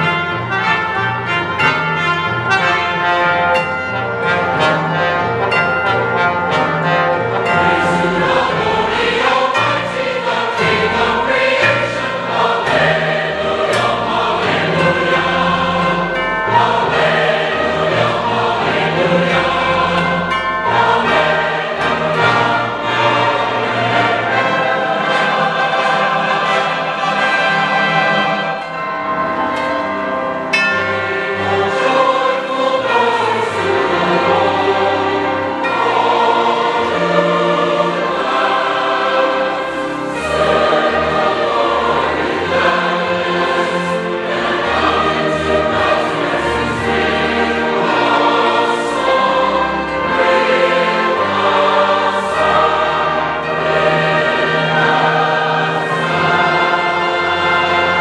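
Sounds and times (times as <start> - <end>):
choir singing: 0.0 - 58.0
orchestral accompaniment: 0.0 - 58.0.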